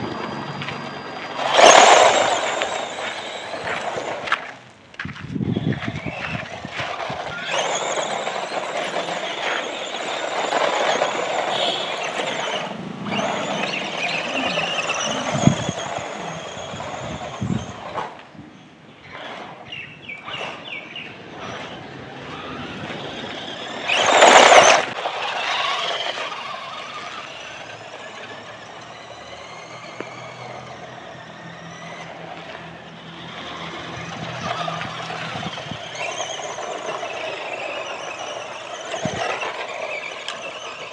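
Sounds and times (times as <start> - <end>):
electric motor whining: 0.0 - 4.6, 5.3 - 18.3, 19.0 - 40.9.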